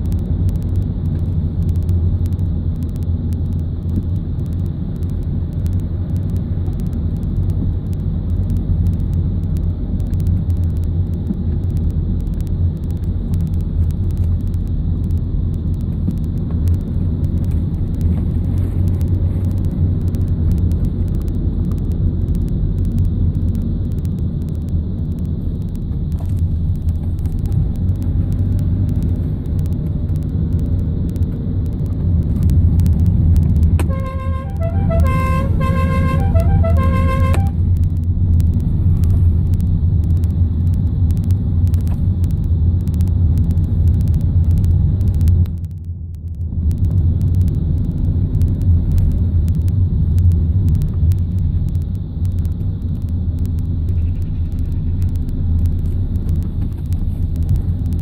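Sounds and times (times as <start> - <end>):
van engine and tyre rumble: 0.0 - 58.0.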